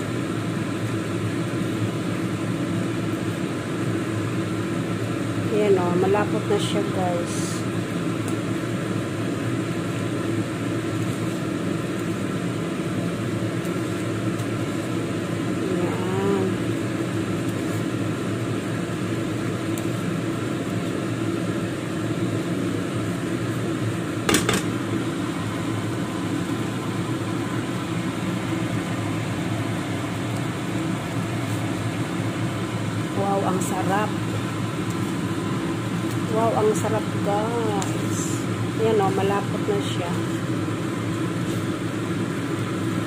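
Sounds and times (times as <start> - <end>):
fan-like hum: 0.0 - 43.0.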